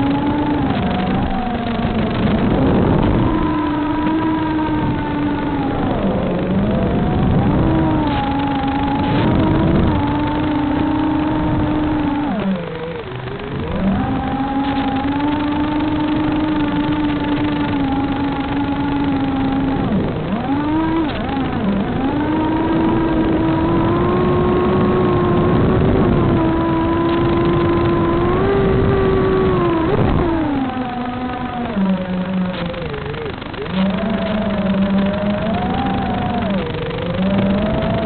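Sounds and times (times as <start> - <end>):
model aircraft motor buzzing: 0.0 - 38.0
wind on microphone: 0.0 - 38.0.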